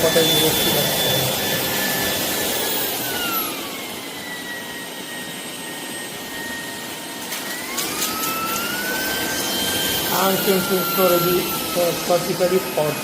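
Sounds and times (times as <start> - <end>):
cordless vacuum motor whine: 0.0 - 13.0.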